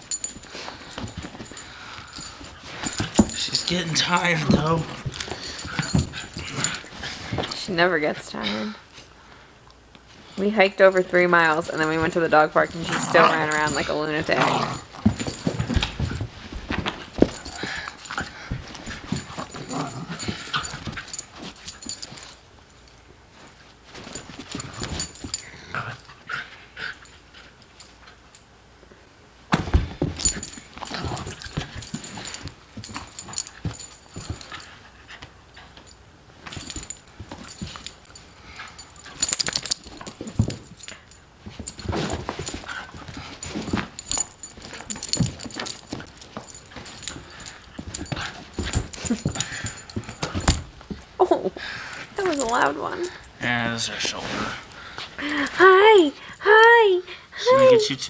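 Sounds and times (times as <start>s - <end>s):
puppy play noises: 0.0s - 9.2s, 10.0s - 28.6s, 29.7s - 58.0s.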